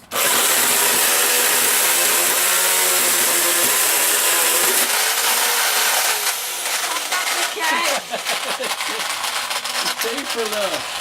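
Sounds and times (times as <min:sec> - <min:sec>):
chainsaw cutting plastic: 0:00.0 - 0:11.0.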